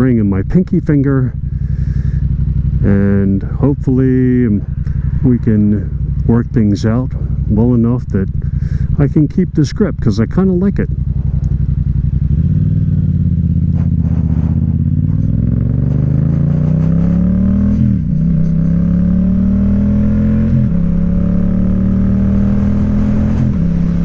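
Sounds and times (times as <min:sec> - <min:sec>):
motorcycle engine shifting gears: 0:00.0 - 0:24.0.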